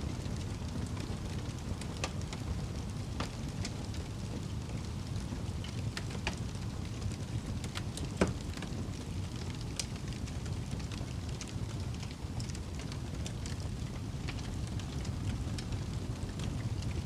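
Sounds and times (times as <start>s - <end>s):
fire crackles and pops: 0.0s - 17.0s
fire rumbling in fireplace: 0.0s - 17.0s.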